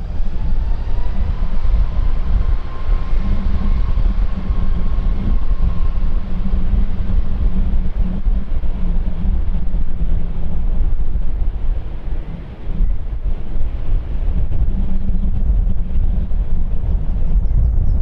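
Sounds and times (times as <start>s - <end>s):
faint engine whine: 0.0s - 18.0s
jet engines rumbling: 0.0s - 18.0s
wind buffeting microphone: 0.0s - 18.0s.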